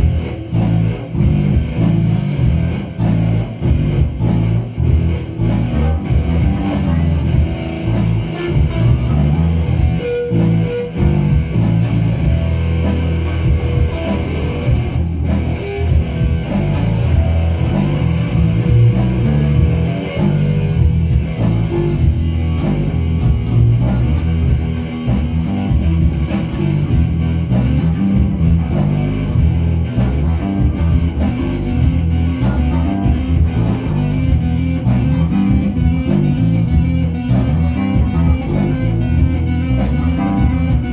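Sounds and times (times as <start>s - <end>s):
electric and bass guitar rock riff: 0.0s - 40.9s.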